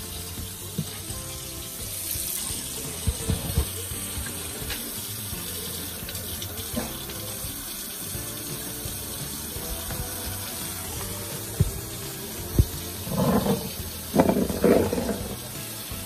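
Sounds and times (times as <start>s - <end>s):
faucet running into sink: 0.0s - 16.0s.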